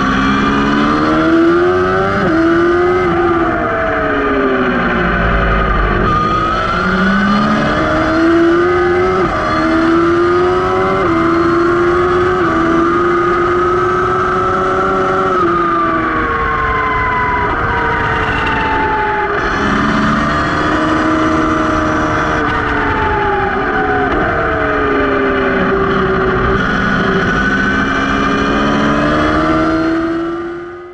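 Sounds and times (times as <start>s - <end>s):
racing motorcycle engine: 0.0s - 30.9s.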